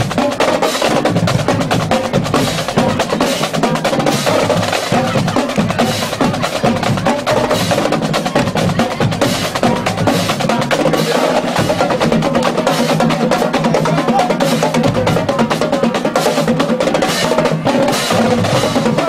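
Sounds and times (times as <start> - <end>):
marching drumline cadence: 0.0 - 19.0.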